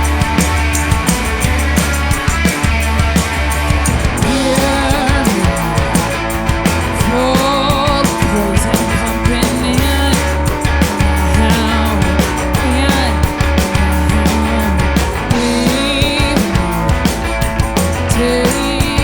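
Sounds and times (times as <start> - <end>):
drum kit: 0.0 - 19.0
electric guitar bending notes: 0.0 - 19.0
low bass line: 0.0 - 19.0.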